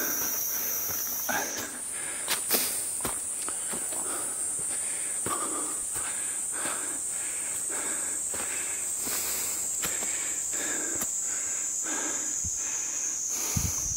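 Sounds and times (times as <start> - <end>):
high-pitched insect drone: 0.0 - 13.9
person breathing: 0.0 - 13.9.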